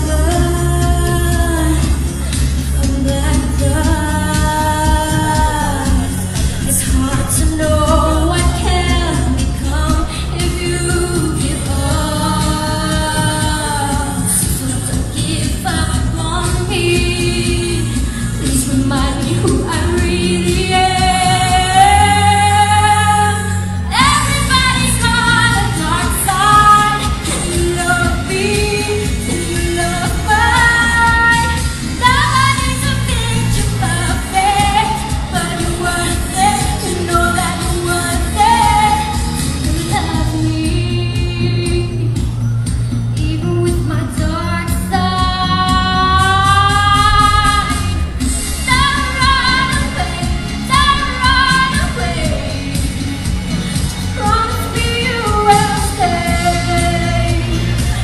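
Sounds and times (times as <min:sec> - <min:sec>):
woman singing into microphone: 0:00.0 - 0:58.0.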